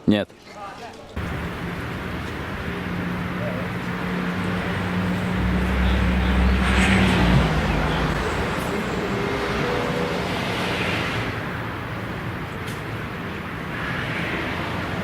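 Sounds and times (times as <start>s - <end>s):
road background noise: 1.2s - 15.0s
vehicle engine rumbling past: 1.2s - 15.0s.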